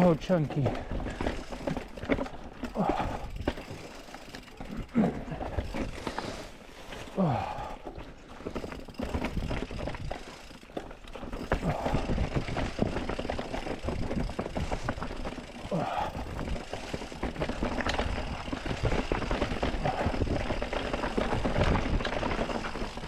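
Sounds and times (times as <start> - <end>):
bike clattering over rocks: 0.0 - 6.3, 7.9 - 23.0.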